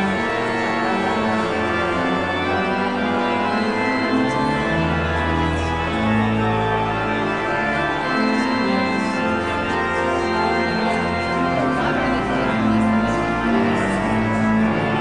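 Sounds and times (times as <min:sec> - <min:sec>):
church organ playing chords: 0:00.0 - 0:15.0.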